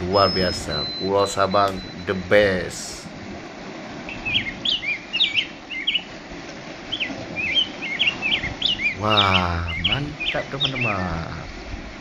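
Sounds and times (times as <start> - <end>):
forest birds chirping: 0.0 - 12.0.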